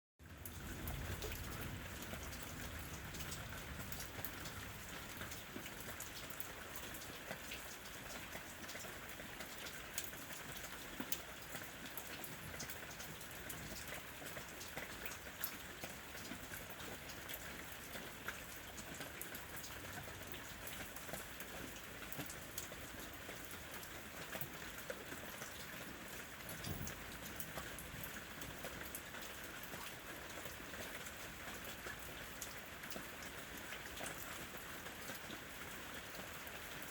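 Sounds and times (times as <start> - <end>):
raindrops pattering on surfaces: 0.2 - 36.9.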